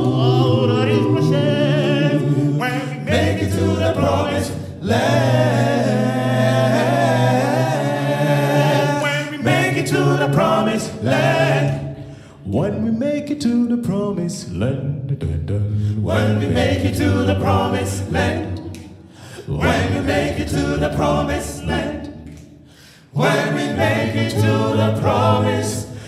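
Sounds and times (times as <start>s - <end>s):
male a cappella group singing: 0.0s - 26.0s.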